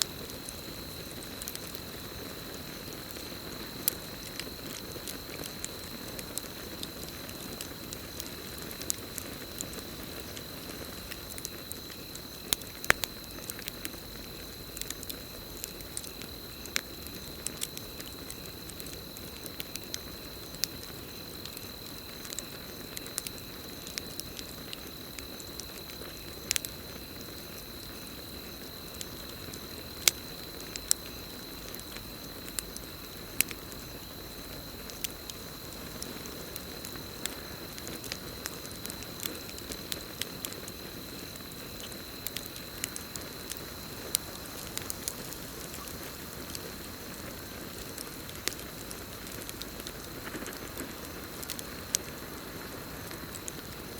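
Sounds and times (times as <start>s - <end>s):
campfire crackling and popping: 0.0s - 53.9s
cricket trill: 0.0s - 53.9s.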